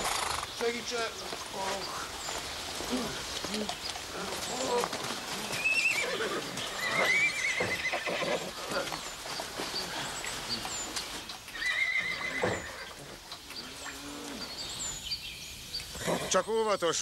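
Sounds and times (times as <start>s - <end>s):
horses whinnying: 0.0s - 0.7s, 1.6s - 14.8s, 15.9s - 16.4s
hooves clattering and stamping: 0.0s - 16.5s.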